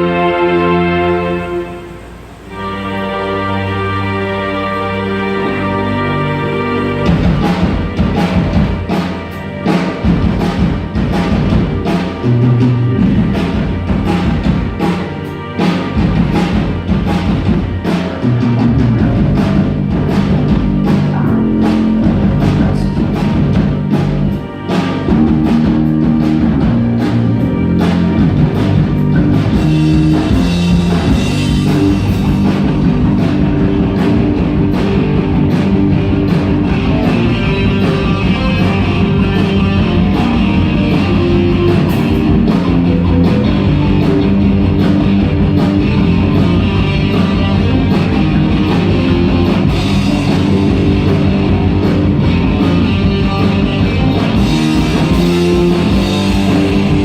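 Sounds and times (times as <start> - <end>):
rock guitar: 0.0 - 57.0
drum kit beat: 5.3 - 57.0.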